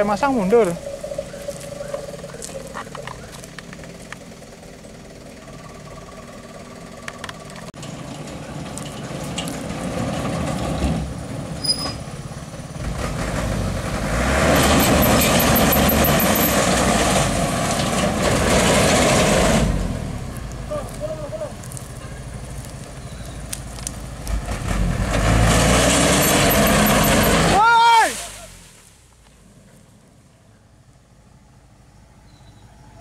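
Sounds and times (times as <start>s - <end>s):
diesel truck engine revving: 0.0s - 28.8s.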